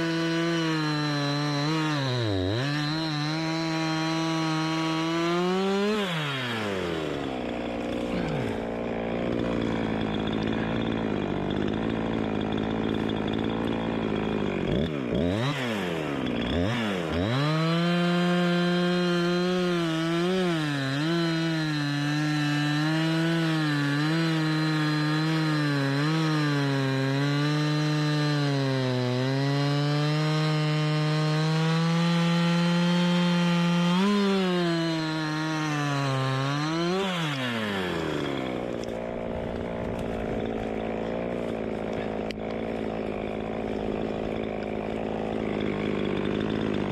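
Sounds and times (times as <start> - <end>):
chainsaw sawing wood: 0.0 - 46.9.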